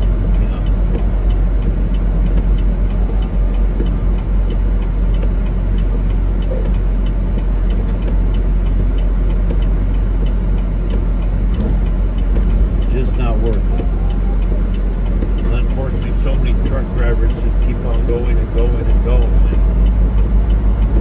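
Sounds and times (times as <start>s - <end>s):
light ticking: 0.0s - 21.0s
truck engine and road drone: 0.0s - 21.0s.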